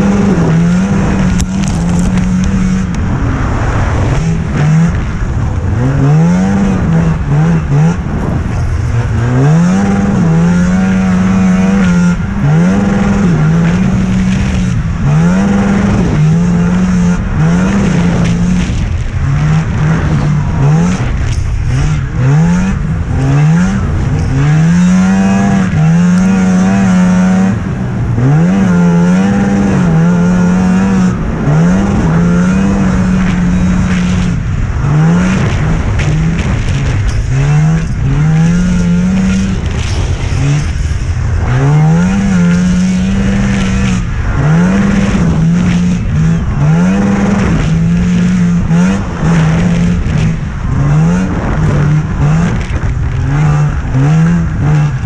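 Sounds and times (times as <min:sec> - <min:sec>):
snowmobile engine racing: 0:00.0 - 0:55.0.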